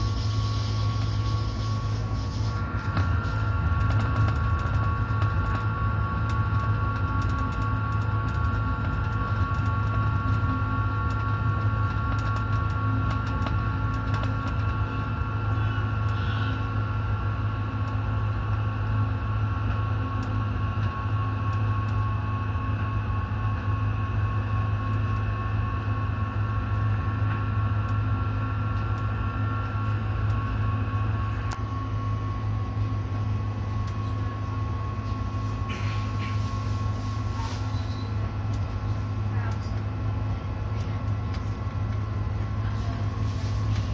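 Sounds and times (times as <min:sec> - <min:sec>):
steady high whine: 0:00.0 - 0:43.9
tram low rumble: 0:00.0 - 0:43.9.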